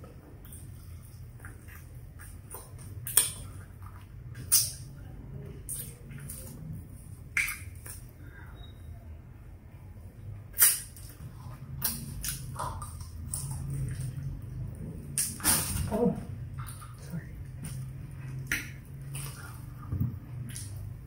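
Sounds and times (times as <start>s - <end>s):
low steady hum: 0.0s - 21.0s
mouth smacks and chewing: 0.4s - 8.2s, 10.5s - 21.0s.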